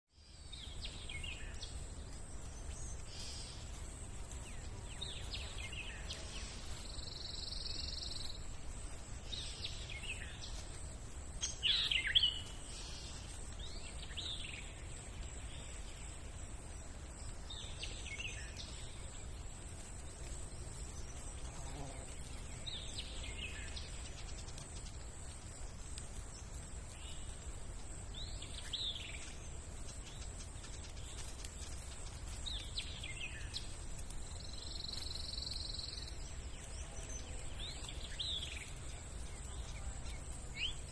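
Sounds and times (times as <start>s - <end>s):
birds chirping: 0.1s - 40.9s.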